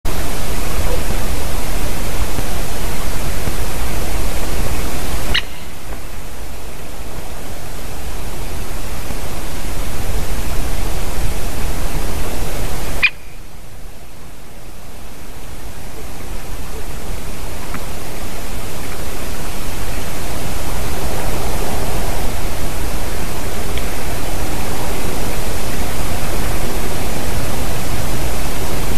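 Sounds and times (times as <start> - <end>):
loud steady rushing noise: 0.1 - 28.9.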